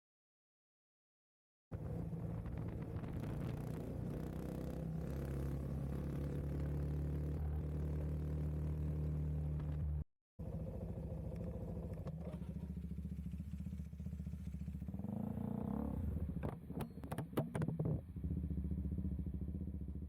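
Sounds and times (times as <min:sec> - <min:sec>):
motorcycle engine running: 0:01.8 - 0:20.0.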